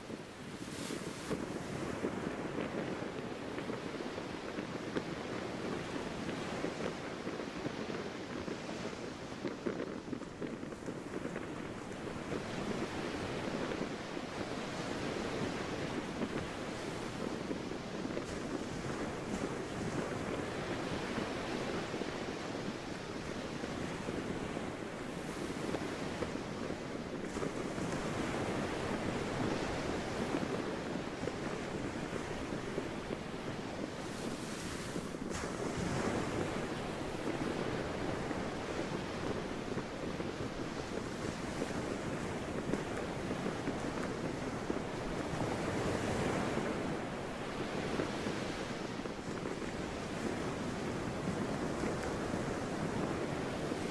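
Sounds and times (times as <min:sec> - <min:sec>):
sea waves washing: 0:00.0 - 0:04.7, 0:09.4 - 0:53.9
wind: 0:00.0 - 0:53.9.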